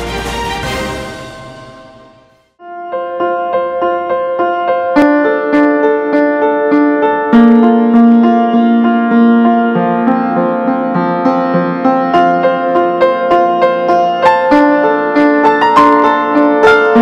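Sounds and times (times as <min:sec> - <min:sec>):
electric piano repeated notes: 0:01.1 - 0:17.0.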